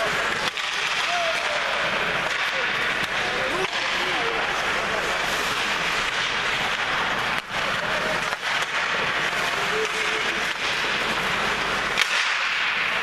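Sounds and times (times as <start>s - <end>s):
hockey stick and puck clicks: 0.0s - 13.0s
skates hissing on ice: 0.0s - 13.0s.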